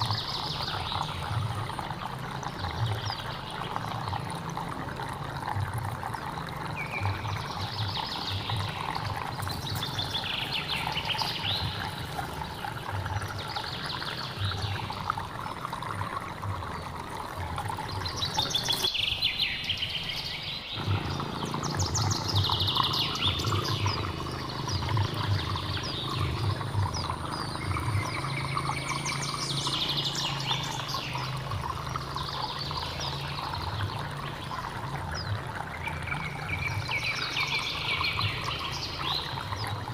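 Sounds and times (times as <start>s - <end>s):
stream trickling: 0.0s - 39.9s
birds trilling: 6.1s - 16.0s, 16.7s - 39.9s.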